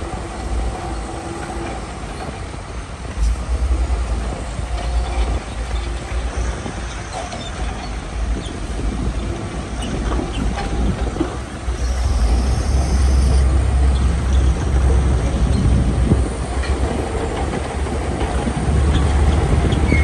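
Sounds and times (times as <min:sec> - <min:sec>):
heavy machinery diesel engines: 0:00.0 - 0:20.0.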